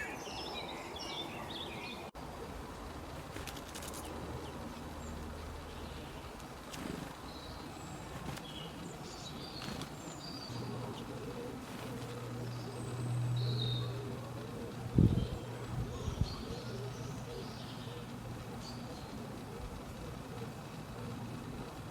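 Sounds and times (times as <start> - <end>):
small birds chirping: 0.0 - 21.9
steady low hum: 1.9 - 21.9.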